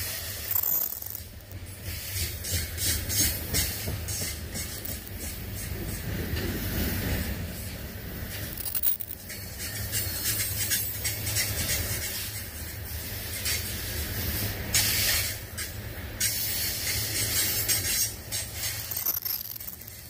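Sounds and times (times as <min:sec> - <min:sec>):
freight train wheels on rails: 0:00.0 - 0:20.0.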